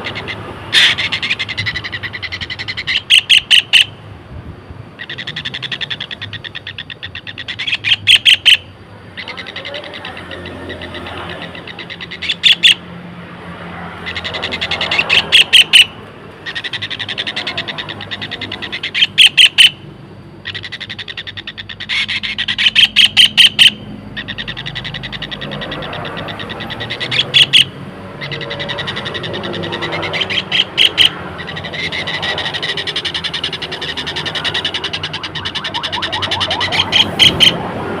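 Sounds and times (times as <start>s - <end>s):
kingfisher rattling trills: 0.0s - 4.0s, 5.0s - 37.8s.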